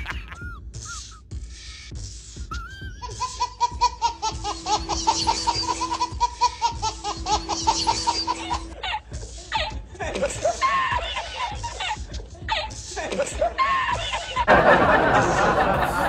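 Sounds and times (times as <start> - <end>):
baby laughing: 0.0 - 0.6, 2.5 - 16.0
man laughing: 0.0 - 1.2, 2.5 - 16.0.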